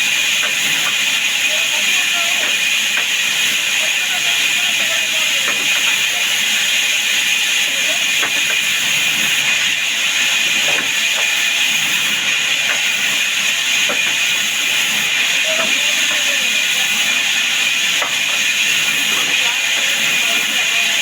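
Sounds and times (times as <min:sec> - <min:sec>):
woodworking machine hissing: 0:00.0 - 0:21.0.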